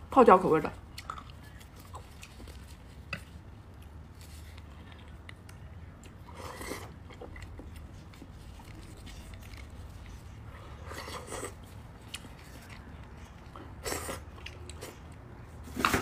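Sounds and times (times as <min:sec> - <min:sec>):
low steady hum: 0:00.0 - 0:16.0
soft chewing: 0:00.8 - 0:15.6.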